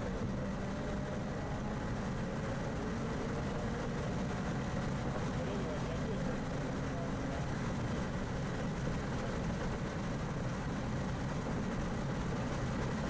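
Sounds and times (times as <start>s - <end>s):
rotary engine drone: 0.0s - 13.0s.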